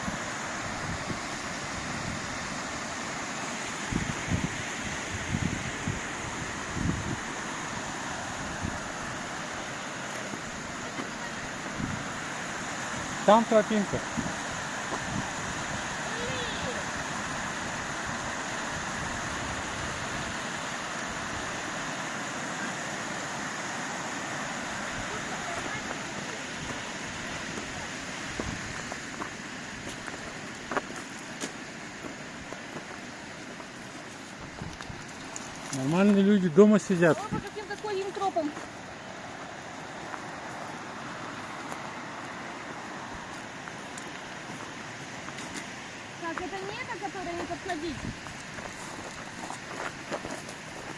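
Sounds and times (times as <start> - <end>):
mountain stream rushing: 0.0 - 50.9.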